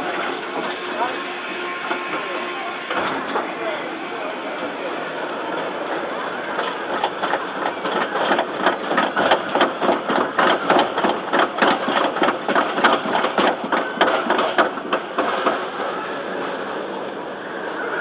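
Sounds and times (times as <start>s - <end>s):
roller coaster clacking: 0.0s - 18.0s.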